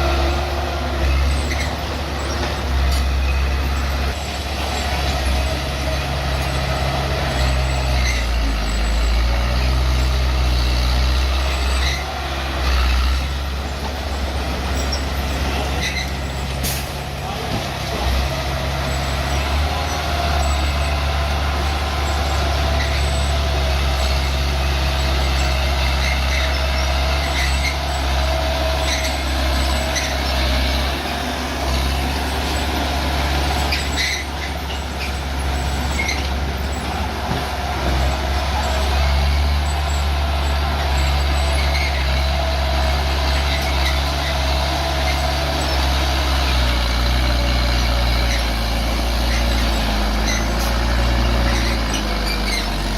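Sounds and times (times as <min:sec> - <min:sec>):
bulldozer diesel engine droning: 0:00.0 - 0:52.9.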